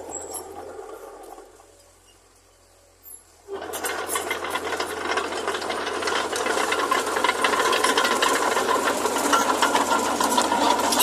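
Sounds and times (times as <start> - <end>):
bulldozer tracks clattering: 0.0 - 11.0.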